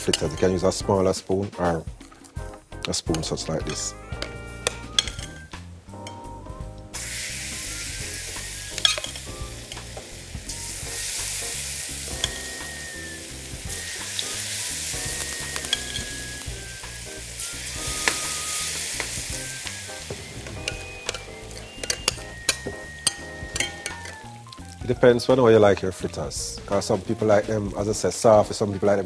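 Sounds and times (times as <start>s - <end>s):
batter sizzling in hot oil: 0.0s - 5.6s, 6.9s - 29.0s.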